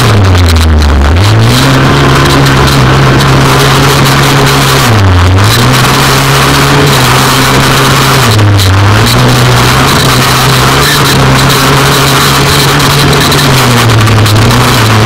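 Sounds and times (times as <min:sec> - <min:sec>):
buggy engine running hard: 0:00.0 - 0:15.0.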